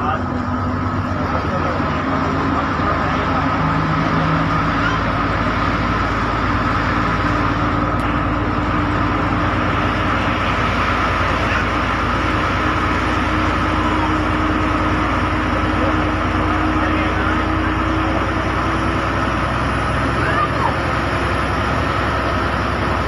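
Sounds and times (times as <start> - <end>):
bus engine drone: 0.0 - 23.0
road noise: 0.0 - 23.0.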